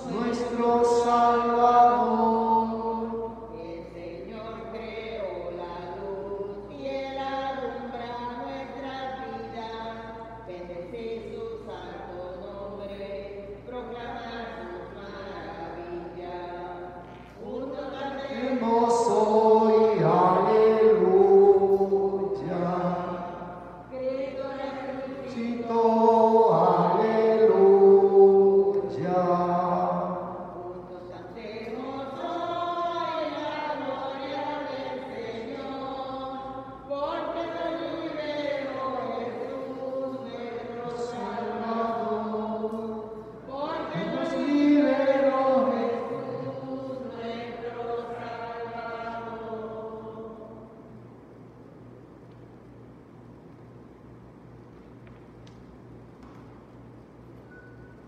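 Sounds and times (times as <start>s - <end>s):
slow hymn singing: 0.0s - 51.6s.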